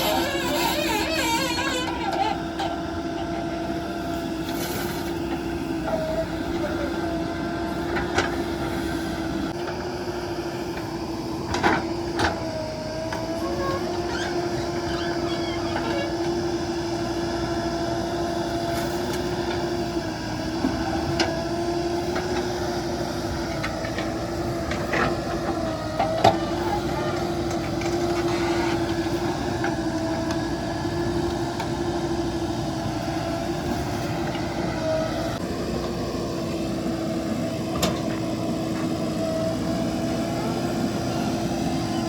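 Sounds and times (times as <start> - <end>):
backhoe diesel engine running: 0.0 - 42.0.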